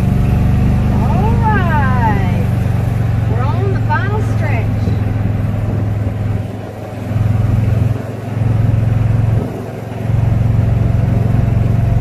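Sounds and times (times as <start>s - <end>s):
golf cart motor humming: 0.0s - 12.0s.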